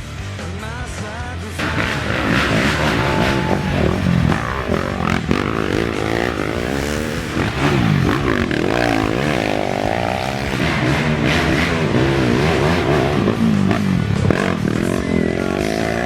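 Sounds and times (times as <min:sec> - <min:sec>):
racing atv engines revving: 0:00.0 - 0:16.0.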